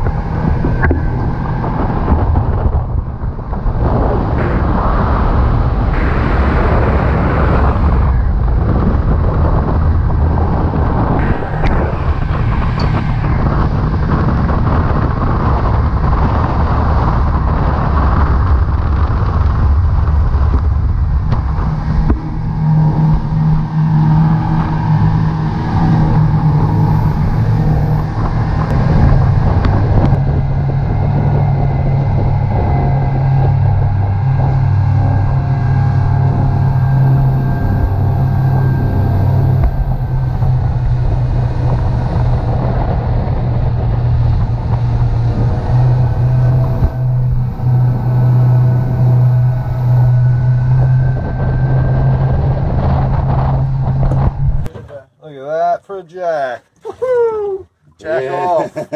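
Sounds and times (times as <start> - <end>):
water rushing against hull: 0.0 - 54.7
boat engine drone: 0.0 - 55.0.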